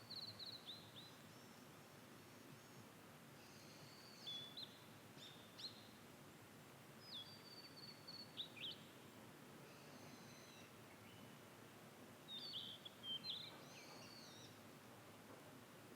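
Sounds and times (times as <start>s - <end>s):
steady background hiss: 0.0s - 15.9s.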